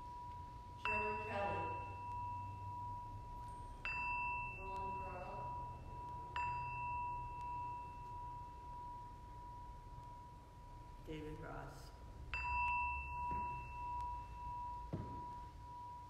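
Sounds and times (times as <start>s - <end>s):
bell ringing: 0.0s - 11.4s, 12.2s - 16.0s.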